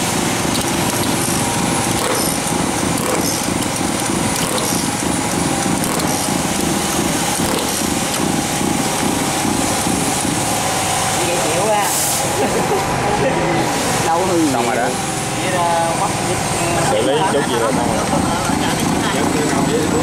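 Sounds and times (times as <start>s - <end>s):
small boat engine running: 0.0s - 20.0s.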